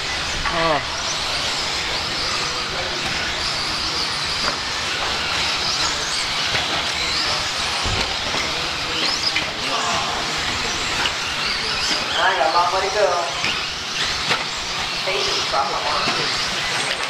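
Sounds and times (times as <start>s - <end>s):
toy car motors whining: 0.0s - 17.0s.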